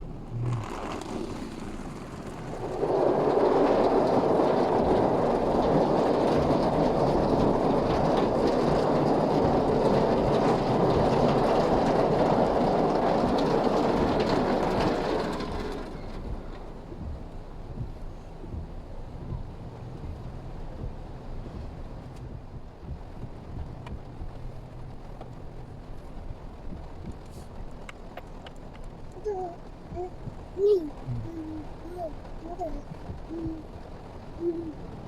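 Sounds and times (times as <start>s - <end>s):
rain on car: 0.0s - 35.0s
road noise inside moving car: 0.0s - 35.0s.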